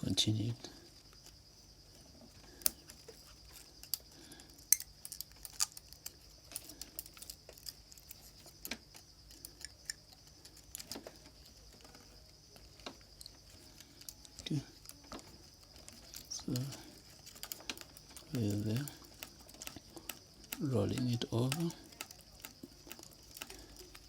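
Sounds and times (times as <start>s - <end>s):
faint high-pitched hiss: 0.0s - 24.0s
small tools clicking and tapping: 2.2s - 24.0s.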